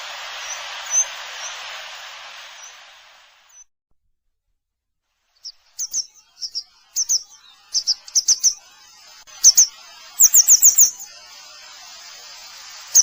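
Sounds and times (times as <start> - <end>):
wagtail calling: 0.0 - 3.6, 5.4 - 13.0.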